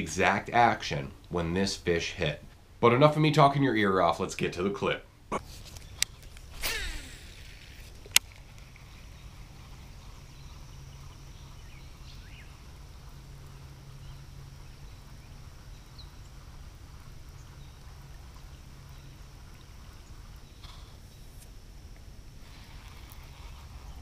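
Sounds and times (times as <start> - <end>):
faint high hiss: 0.0 - 24.0.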